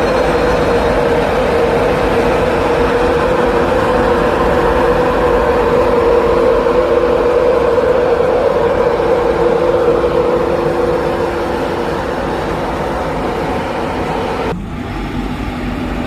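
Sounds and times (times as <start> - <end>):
held tone: 0.0 - 14.6
train rumbling past: 0.0 - 16.0.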